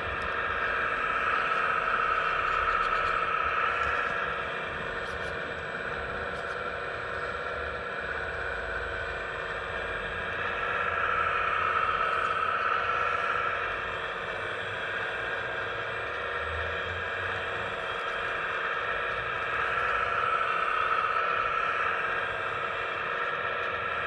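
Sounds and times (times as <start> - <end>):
model excavator hydraulic whine: 0.0 - 24.0.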